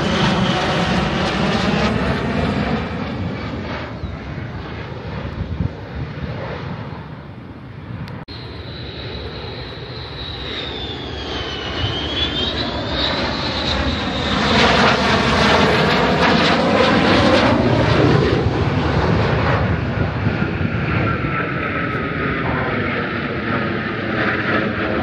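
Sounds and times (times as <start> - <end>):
high whine wavering in pitch: 0.0 - 25.0
jet engine roar: 0.0 - 25.0.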